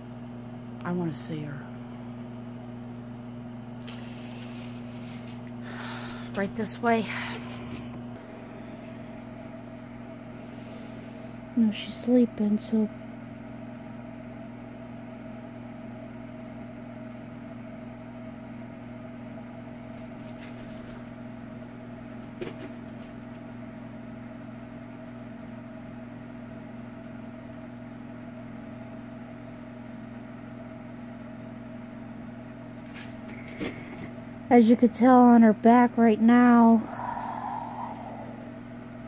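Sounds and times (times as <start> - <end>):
steady machine hum: 0.0 - 39.0.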